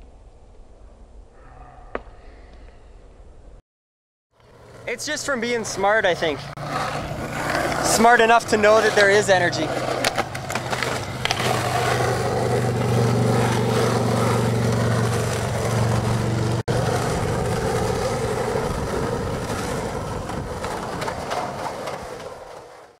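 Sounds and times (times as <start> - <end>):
skateboard wheels rolling on asphalt: 4.4 - 23.0.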